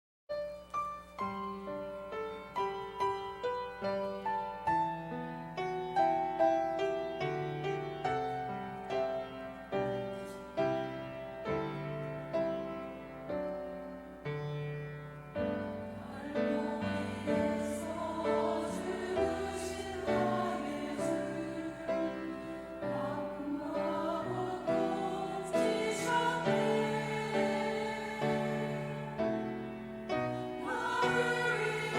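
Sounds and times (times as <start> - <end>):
piano playing: 0.3 - 31.9
church choir singing: 1.8 - 31.9.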